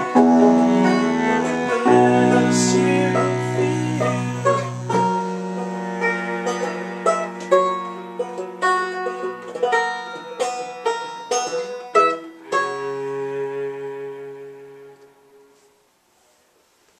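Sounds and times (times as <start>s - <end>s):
folk tune on banjo and cello: 0.0s - 15.7s.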